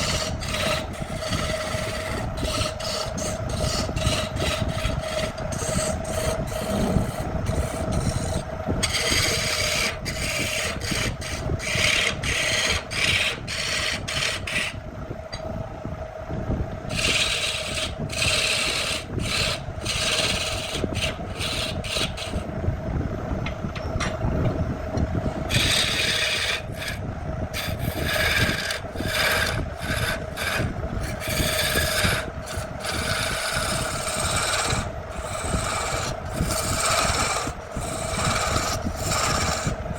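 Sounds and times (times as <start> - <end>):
wood being rasped by hand: 0.0 - 14.8, 16.9 - 22.5, 25.4 - 39.9.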